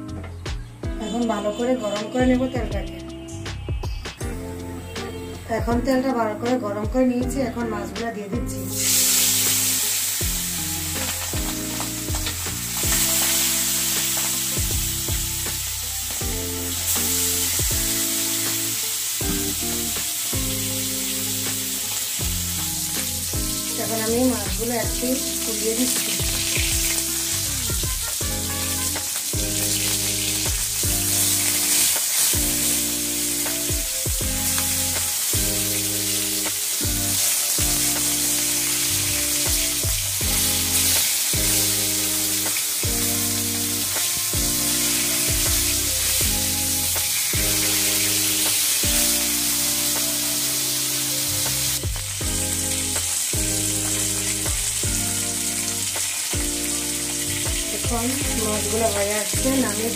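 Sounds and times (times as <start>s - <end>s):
background music with low notes: 0.0s - 59.9s
fish sizzling in hot oil: 8.6s - 59.9s.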